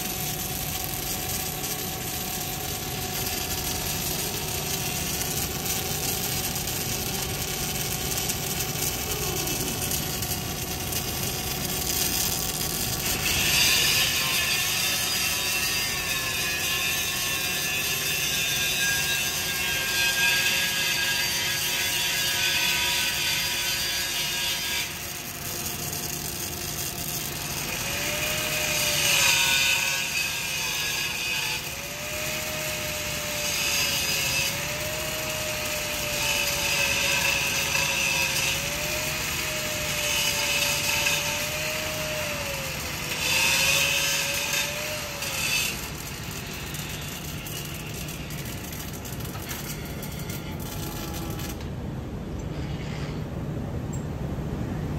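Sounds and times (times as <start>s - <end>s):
welding arc hissing: 0.0s - 51.6s.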